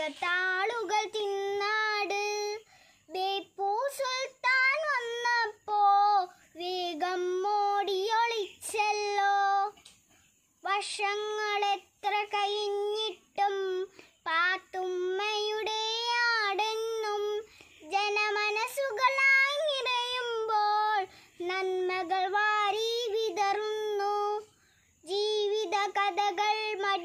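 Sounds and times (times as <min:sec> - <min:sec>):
girl singing unaccompanied: 0:00.0 - 0:27.0.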